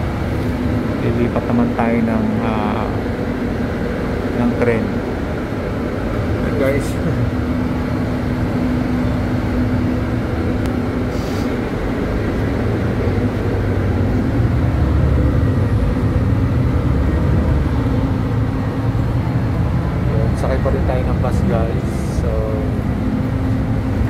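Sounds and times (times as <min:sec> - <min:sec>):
bus engine and road rumble: 0:00.0 - 0:24.0
steady hum: 0:00.0 - 0:24.0.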